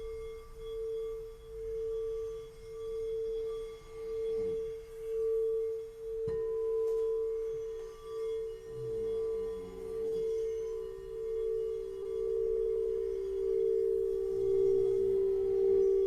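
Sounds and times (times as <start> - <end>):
singing bowl ringing: 0.0 - 16.0.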